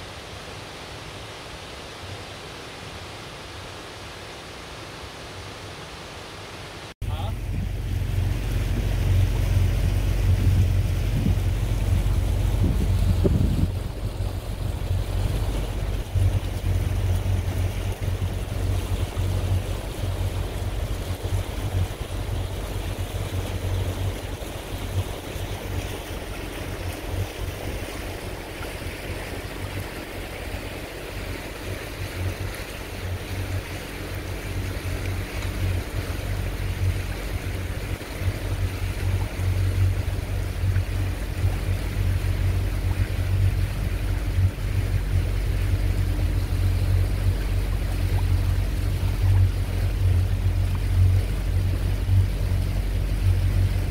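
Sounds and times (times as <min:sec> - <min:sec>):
water rushing along hull: 0:00.0 - 0:53.9
boat motor droning: 0:07.0 - 0:53.9
wind buffeting microphone: 0:07.2 - 0:53.9.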